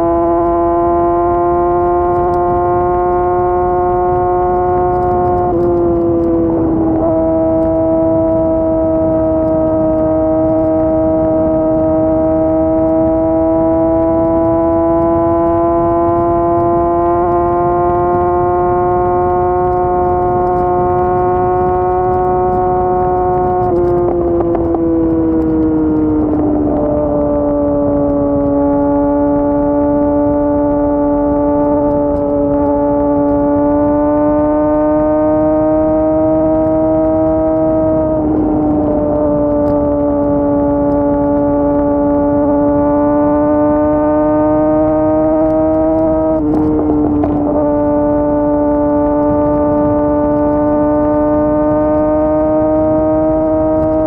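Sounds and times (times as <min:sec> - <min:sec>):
motorcycle engine at high revs: 0:00.0 - 0:54.0.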